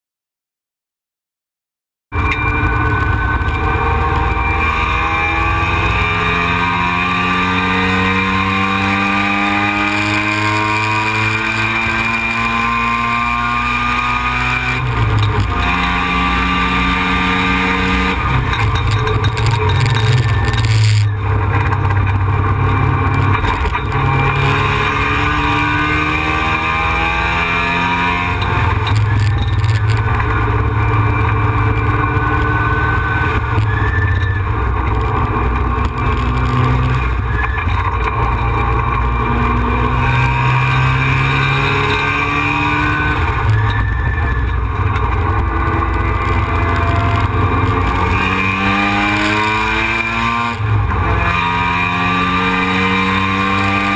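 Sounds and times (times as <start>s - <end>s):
road and wind rumble: 2.2s - 53.9s
rotary engine revving: 2.4s - 53.9s.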